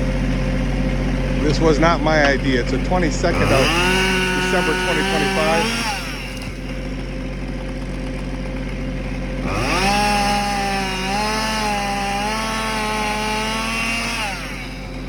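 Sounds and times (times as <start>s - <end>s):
chainsaw engine idling and revving: 0.0s - 15.0s.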